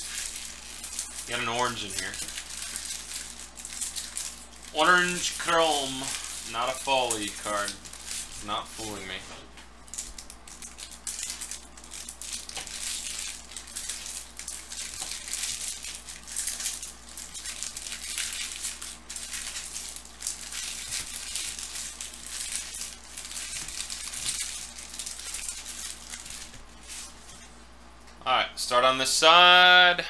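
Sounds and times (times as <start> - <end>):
foil wrappers crinkling: 0.0 - 27.6.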